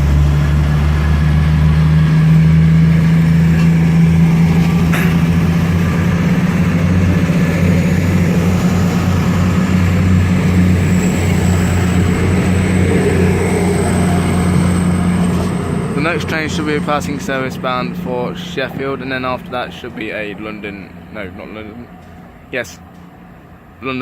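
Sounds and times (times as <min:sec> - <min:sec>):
diesel train engines humming: 0:00.0 - 0:24.0.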